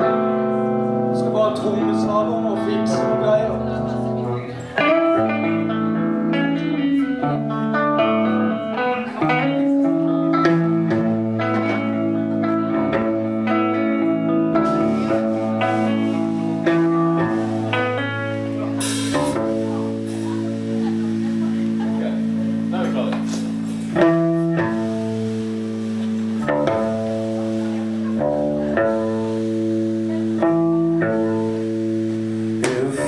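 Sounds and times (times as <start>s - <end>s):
bass guitar line: 0.0s - 33.0s
electric guitars picking notes: 0.0s - 33.0s.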